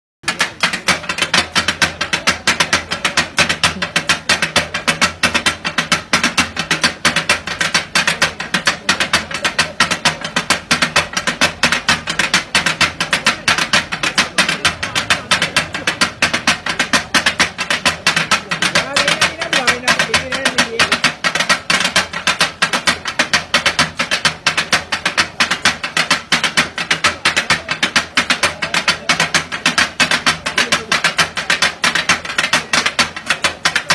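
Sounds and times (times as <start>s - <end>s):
steel blades chopping on a griddle: 0.2s - 33.9s.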